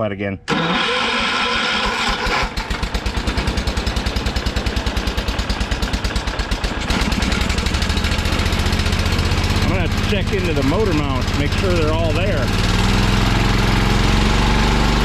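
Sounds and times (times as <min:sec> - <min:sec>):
engine starter cranking: 0:00.5 - 0:14.4
tractor engine running: 0:00.5 - 0:15.0.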